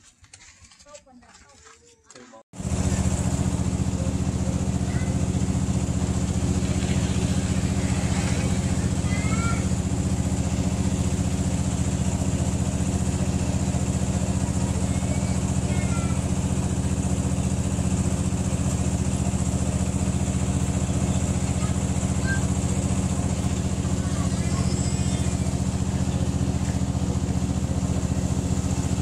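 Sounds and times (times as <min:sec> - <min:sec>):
small engine idling: 0:00.0 - 0:29.0.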